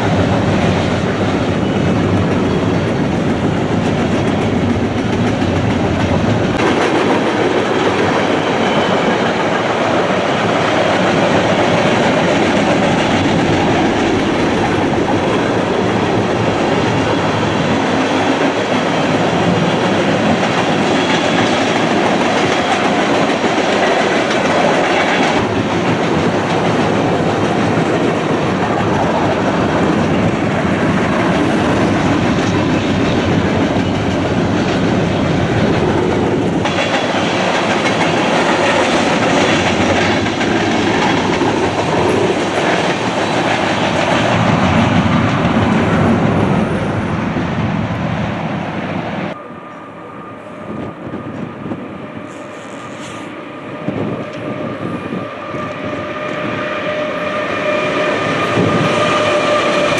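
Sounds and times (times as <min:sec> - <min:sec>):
distant train: 0:00.0 - 0:59.9
freight train wheels rolling on rail: 0:00.0 - 0:59.9.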